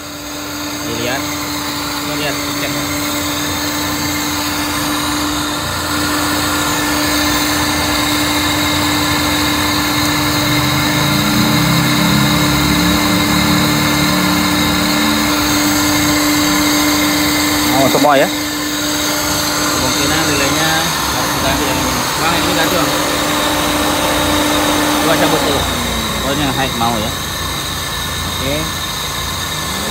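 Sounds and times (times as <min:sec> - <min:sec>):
radiator cooling fan whirring: 0:00.0 - 0:29.9
car engine idling: 0:01.8 - 0:29.9.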